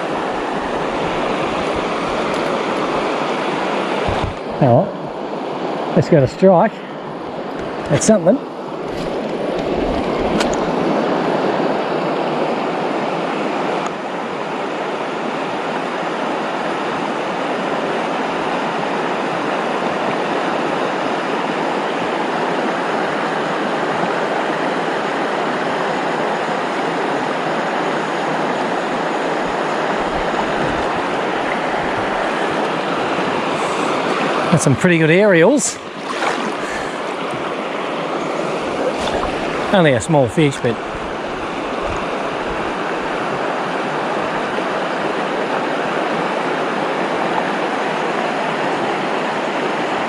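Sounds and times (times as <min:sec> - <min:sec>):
river water rushing over rocks: 0:00.0 - 0:06.3, 0:06.9 - 0:50.0.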